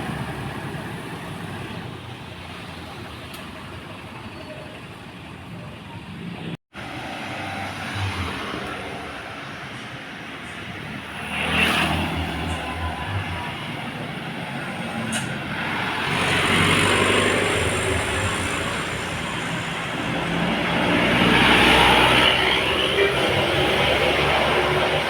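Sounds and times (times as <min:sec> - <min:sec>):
large vehicles passing: 0:00.0 - 0:25.0.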